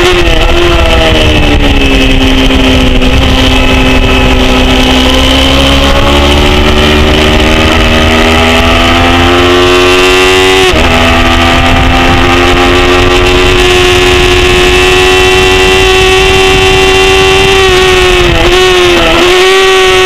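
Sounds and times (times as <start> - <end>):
motorcycle engine revving high: 0.0 - 20.0
wind rushing past microphone: 0.0 - 20.0.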